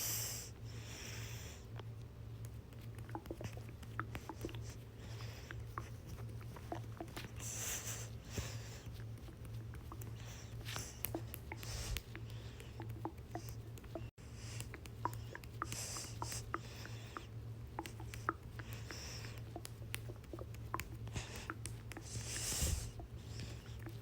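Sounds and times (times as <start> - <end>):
steady low hum: 0.0 - 24.0
stomach gurgling: 2.4 - 24.0.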